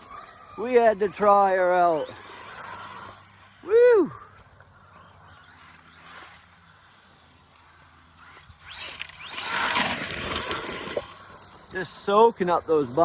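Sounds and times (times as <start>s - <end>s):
rc truck motor whine: 0.0s - 13.0s.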